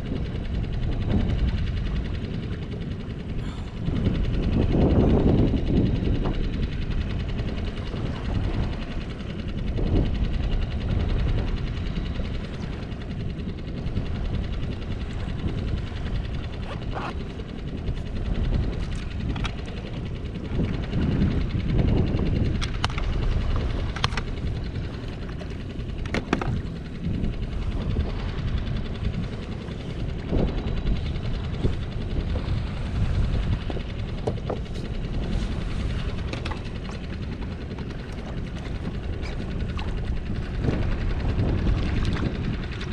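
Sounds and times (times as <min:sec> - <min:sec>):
wind buffeting microphone: 0:00.0 - 0:42.9
gear clicks and knocks: 0:00.1 - 0:42.9.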